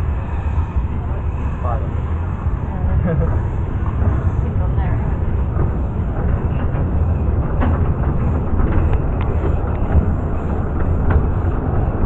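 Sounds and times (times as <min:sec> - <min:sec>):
train carriages rumbling: 0:00.0 - 0:12.0
wheels clicking over rails: 0:00.0 - 0:12.0.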